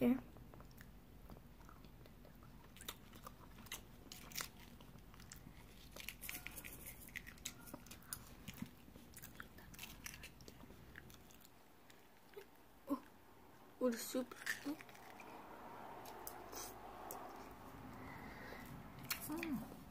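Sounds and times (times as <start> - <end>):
quiet chewing: 0.3 - 13.2, 14.3 - 19.9.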